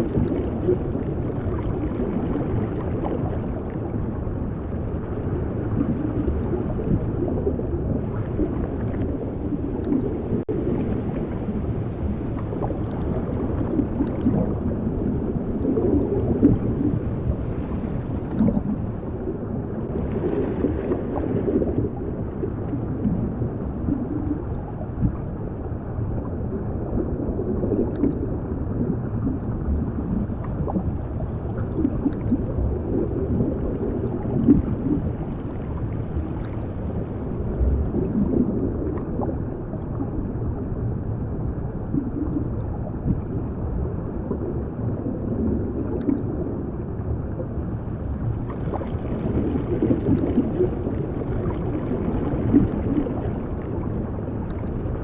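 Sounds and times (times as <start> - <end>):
gurgling bubbles: 0.0 - 55.0
muffled underwater rush: 0.0 - 55.0.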